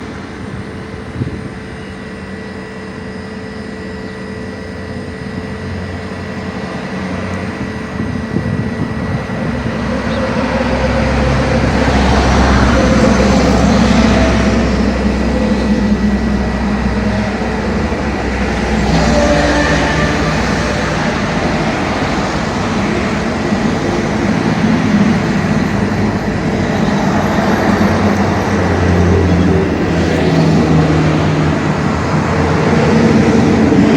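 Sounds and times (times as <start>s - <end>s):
low rumbling drone in the sky: 0.0s - 33.9s.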